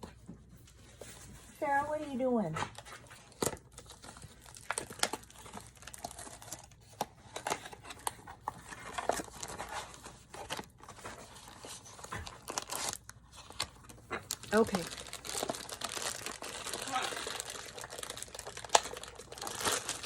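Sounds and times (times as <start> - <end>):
packaging tearing and crinkling: 3.0 - 20.0.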